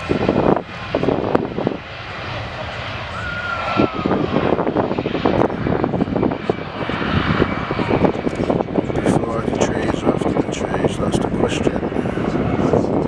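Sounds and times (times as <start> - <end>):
jet engines at takeoff power: 0.0 - 13.0
wind buffeting microphone: 0.0 - 13.0.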